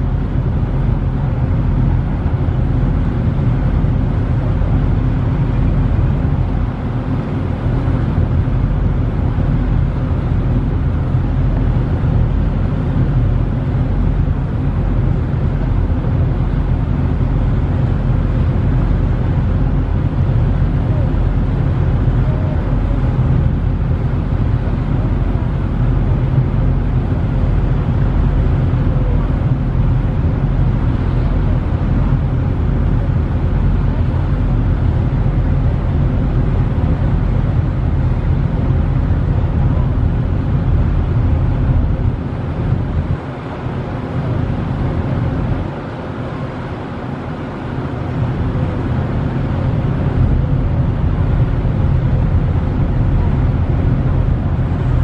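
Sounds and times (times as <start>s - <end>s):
ferry engines rumbling: 0.0s - 55.0s
wind on microphone: 0.0s - 55.0s.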